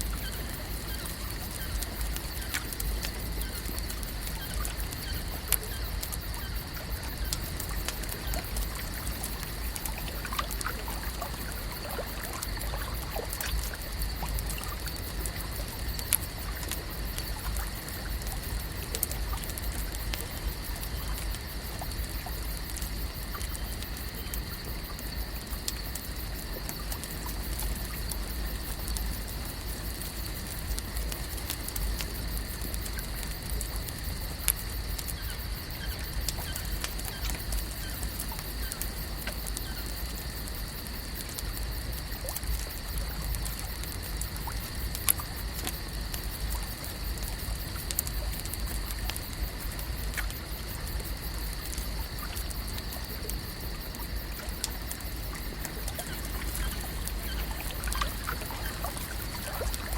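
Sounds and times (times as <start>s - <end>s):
small clicks and ticks: 0.0s - 59.9s
water lapping and trickling: 0.0s - 59.9s.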